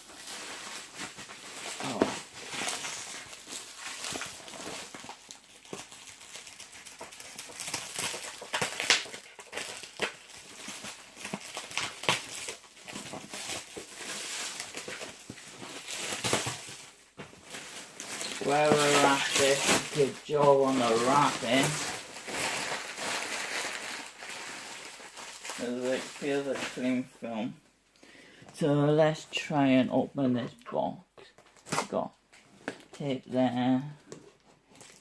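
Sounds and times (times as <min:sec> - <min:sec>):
plastic wrapping crinkling: 0:00.0 - 0:27.6, 0:31.3 - 0:35.0.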